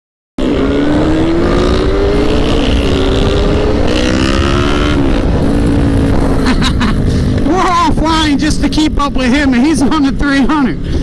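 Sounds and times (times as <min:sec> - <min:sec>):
motorcycle engine accelerating: 0:00.4 - 0:10.1
wind noise on microphone: 0:00.4 - 0:11.0.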